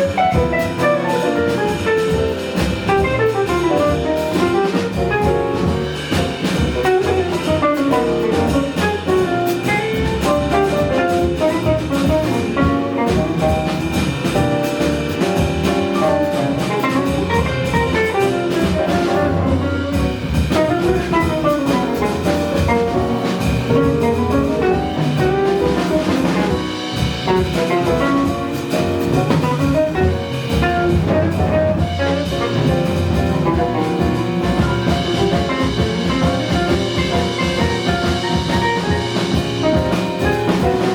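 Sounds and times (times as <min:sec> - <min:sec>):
drum kit: 0:00.0 - 0:40.9
live jazz band playing: 0:00.0 - 0:40.9.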